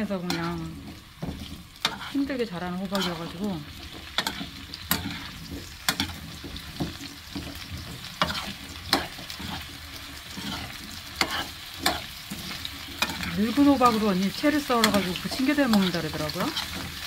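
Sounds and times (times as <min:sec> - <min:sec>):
soft sizzle of frying: 0:00.0 - 0:17.0
metal spoon scraping a pan: 0:00.1 - 0:17.0.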